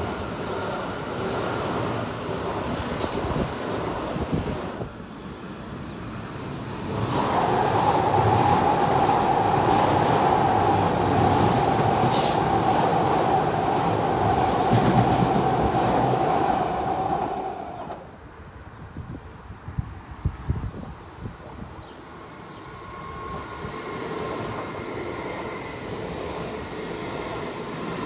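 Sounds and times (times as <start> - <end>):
train rumbling over rails: 0.0 - 18.2, 20.0 - 28.0.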